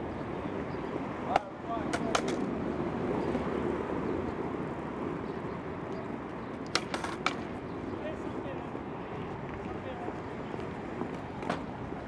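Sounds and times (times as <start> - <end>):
low rumble of city noise: 0.0 - 12.0.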